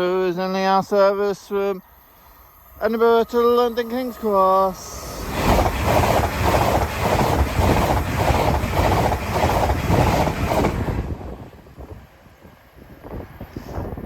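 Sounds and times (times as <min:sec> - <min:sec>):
train passing with clickety-clack wheels: 0:00.5 - 0:14.0.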